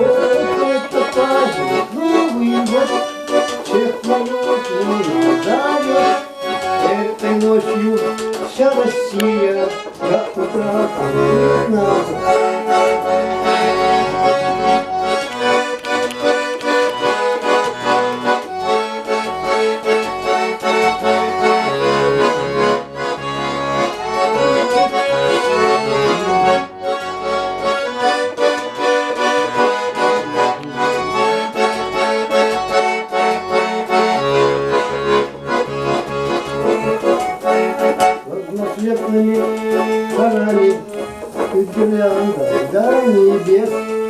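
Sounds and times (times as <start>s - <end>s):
accordion melody: 0.0s - 44.0s.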